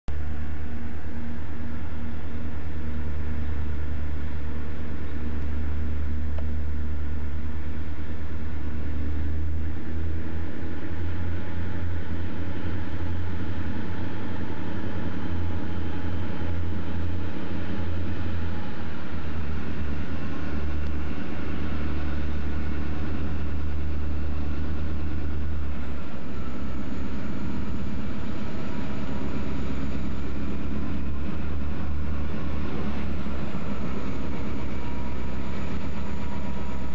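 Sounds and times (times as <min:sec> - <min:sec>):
diesel locomotive rumbling: 0:00.1 - 0:36.9.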